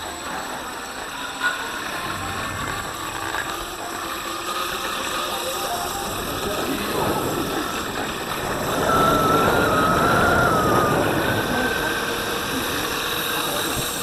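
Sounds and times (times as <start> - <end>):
electric motor whine: 0.0 - 14.0
tyres rolling over asphalt: 0.0 - 14.0.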